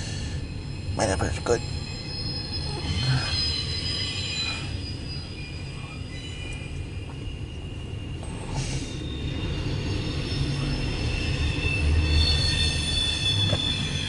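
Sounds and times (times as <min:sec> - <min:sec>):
freight train cars rolling past: 0:00.0 - 0:14.0
high-pitched wheel squeal: 0:00.8 - 0:14.0.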